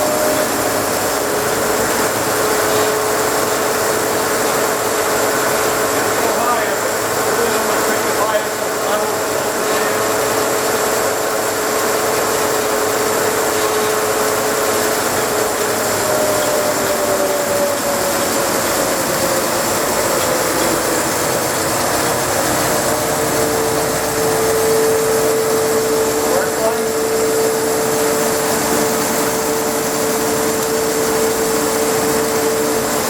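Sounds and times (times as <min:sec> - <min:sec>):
band saw running: 0:00.0 - 0:33.0.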